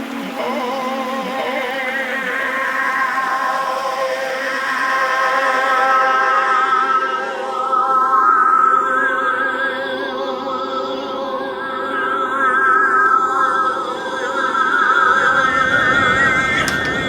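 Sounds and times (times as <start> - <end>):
choir-like sustained voices: 0.0 - 17.0.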